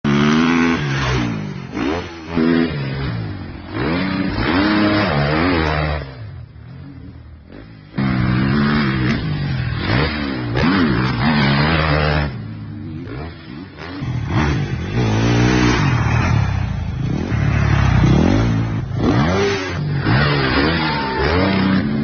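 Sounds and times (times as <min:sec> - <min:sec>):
motocross bike engine revving: 0:00.1 - 0:22.0.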